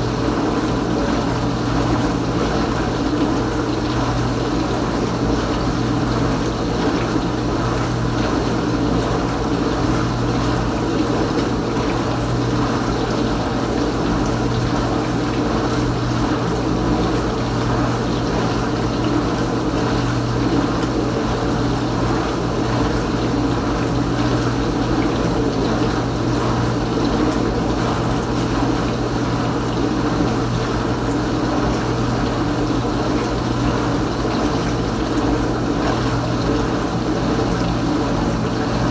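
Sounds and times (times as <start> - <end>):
dishwasher pump humming: 0.0 - 38.9.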